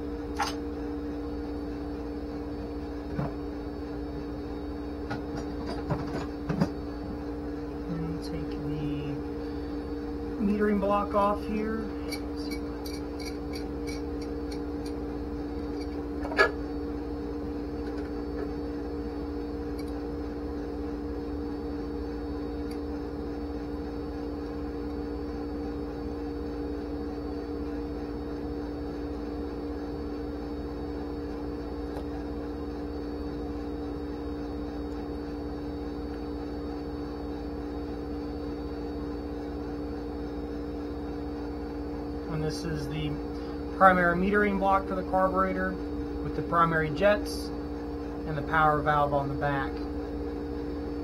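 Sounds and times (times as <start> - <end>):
two-tone hum: 0.0 - 51.0.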